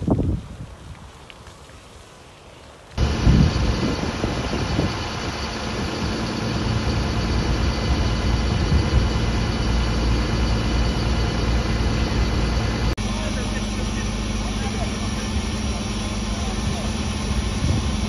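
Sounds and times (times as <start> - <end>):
engine running with high whine: 3.0 - 18.0.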